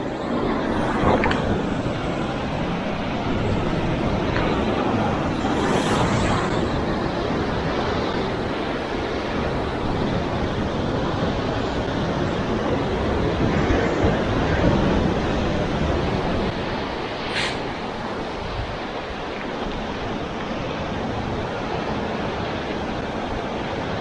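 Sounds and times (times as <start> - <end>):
sea surf breaking on rocks: 0.0 - 24.0.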